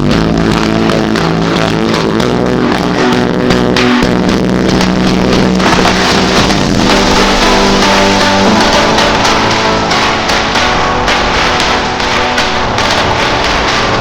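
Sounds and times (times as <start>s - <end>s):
music with guitar and drums: 0.0s - 14.0s.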